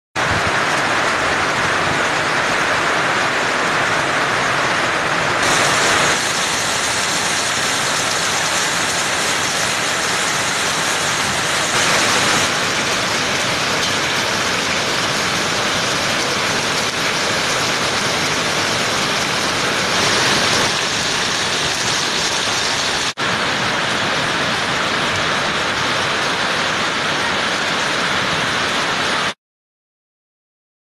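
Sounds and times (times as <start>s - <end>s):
strong wind: 0.2s - 29.3s
torrential rain pouring: 0.2s - 29.4s.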